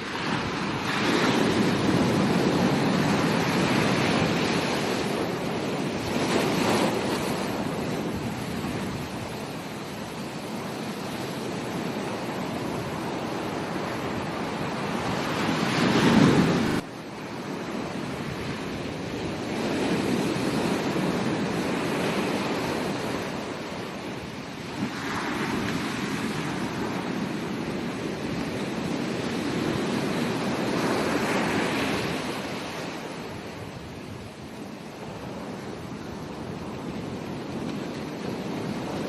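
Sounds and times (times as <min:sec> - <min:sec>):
waves breaking on a beach: 0:00.0 - 0:39.0.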